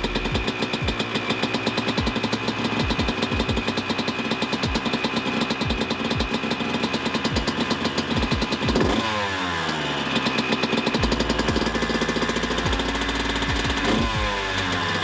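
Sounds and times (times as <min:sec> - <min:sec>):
two-stroke engine revving and idling: 0:00.0 - 0:15.0.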